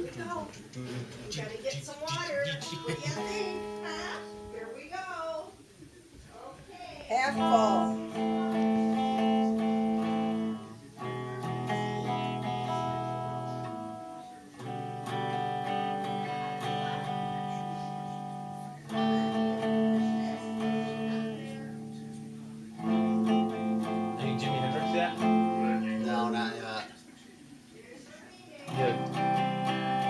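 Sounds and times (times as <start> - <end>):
guitar ringing chords: 2.0 - 4.9, 7.1 - 30.0.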